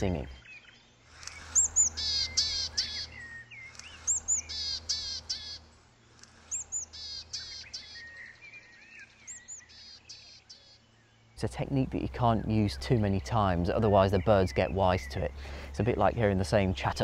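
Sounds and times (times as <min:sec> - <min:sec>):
recorded bird calls from phone: 0:00.0 - 0:17.0.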